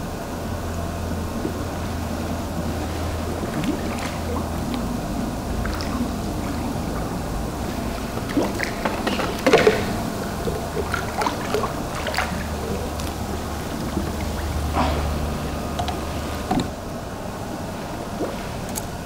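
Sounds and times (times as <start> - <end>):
fish splashing at water surface: 1.3 - 19.0.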